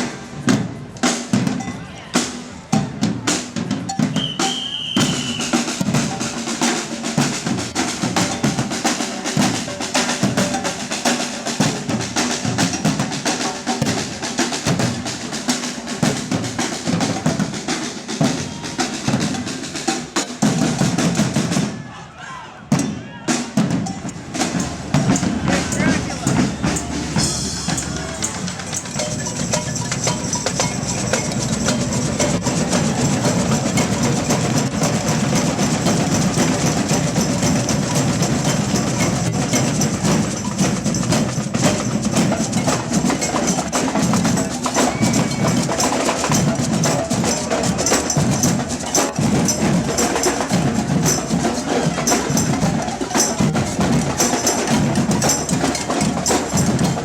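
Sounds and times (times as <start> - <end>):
marching band drums: 0.0 - 22.0, 22.6 - 57.0.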